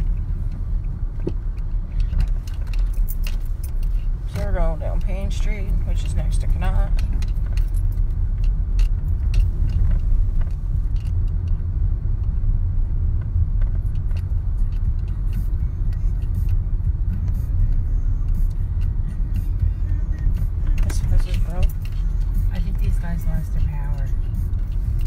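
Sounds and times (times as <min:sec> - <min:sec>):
light clicks and rattles: 0:00.0 - 0:12.4, 0:13.2 - 0:25.0
road and engine rumble: 0:00.0 - 0:25.0.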